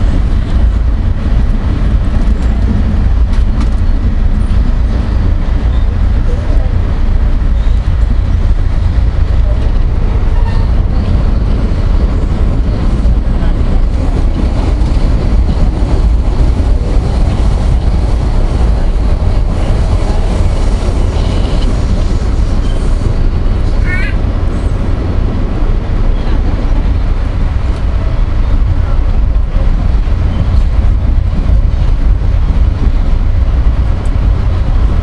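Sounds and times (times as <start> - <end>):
train rumbling from inside: 0.0 - 35.0.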